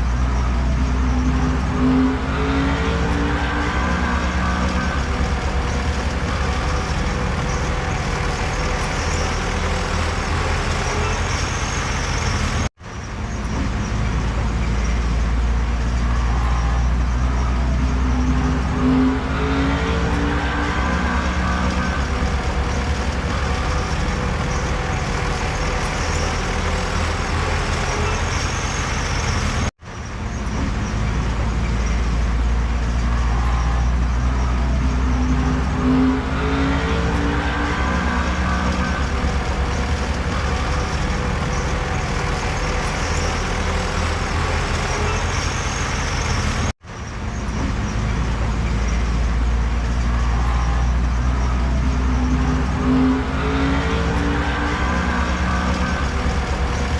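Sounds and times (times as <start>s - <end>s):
diesel machinery engine drone: 0.0s - 56.9s.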